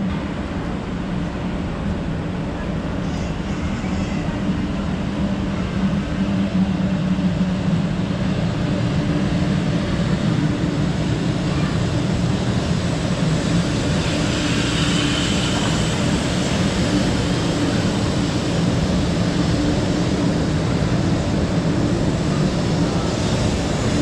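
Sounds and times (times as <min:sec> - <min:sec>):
train passing with loud rumble: 0:00.0 - 0:24.0.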